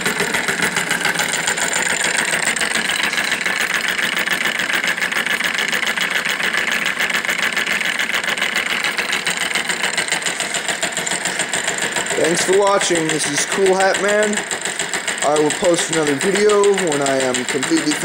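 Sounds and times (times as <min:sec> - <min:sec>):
solenoid engine clattering: 0:00.0 - 0:18.0.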